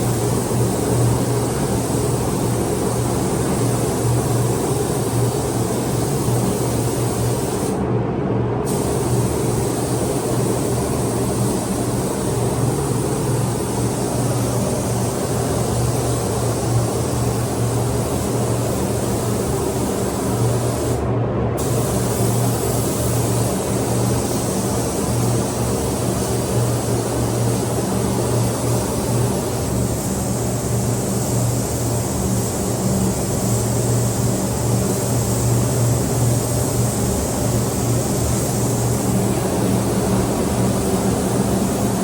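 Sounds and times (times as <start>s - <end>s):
paint spray gun hissing: 0.0s - 7.8s, 8.6s - 21.0s, 21.6s - 42.0s
constant low hum: 0.0s - 42.0s.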